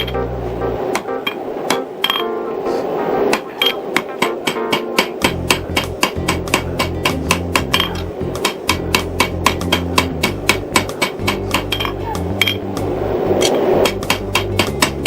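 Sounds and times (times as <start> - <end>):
music: 0.0 - 3.2, 4.1 - 15.0.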